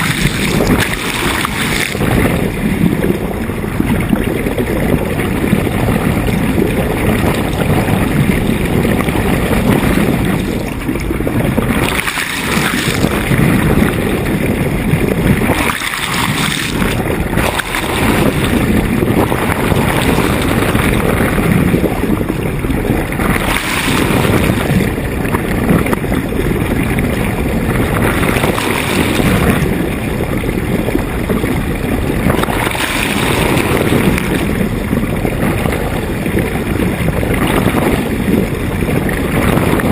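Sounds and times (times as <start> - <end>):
water rushing along hull: 0.0 - 39.9
wind buffeting microphone: 0.0 - 39.9.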